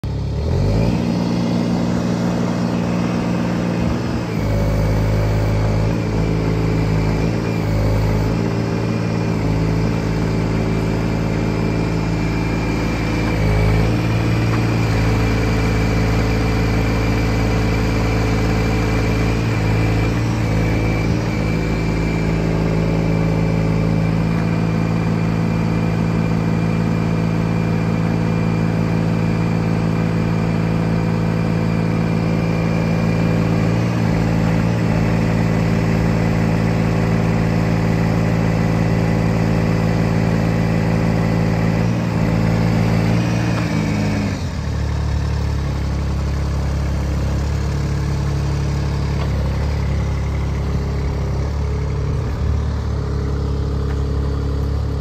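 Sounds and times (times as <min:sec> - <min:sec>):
forklift diesel engine running: 0:00.0 - 0:55.0.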